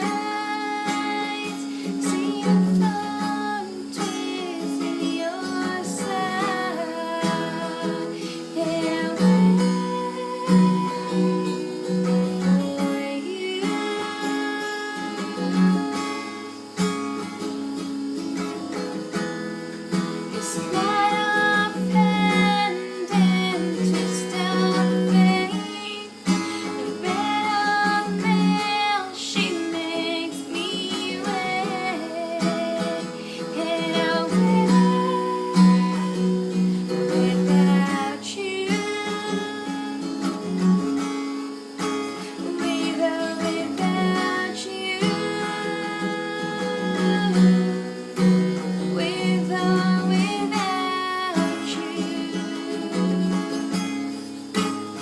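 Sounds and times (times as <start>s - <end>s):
person singing: 0.0s - 16.6s, 19.8s - 55.0s
acoustic guitar strumming: 0.0s - 55.0s.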